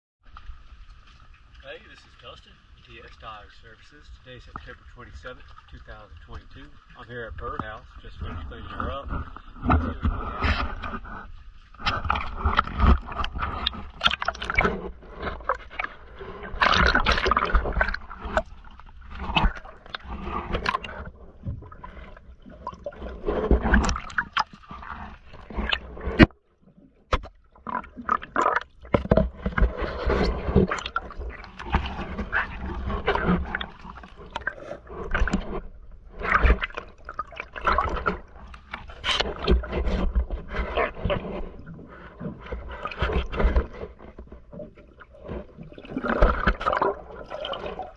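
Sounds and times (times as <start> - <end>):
exhaled bubbles rumbling: 0.3 - 47.9.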